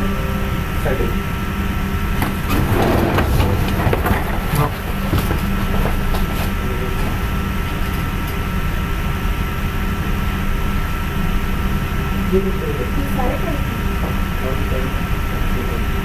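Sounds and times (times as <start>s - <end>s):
low background hum and rumble: 0.0s - 16.0s.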